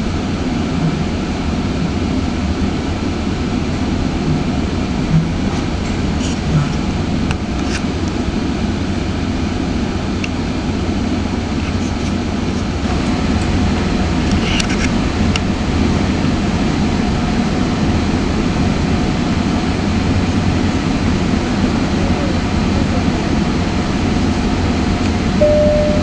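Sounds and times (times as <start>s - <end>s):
train rumble inside coach: 0.0s - 26.0s.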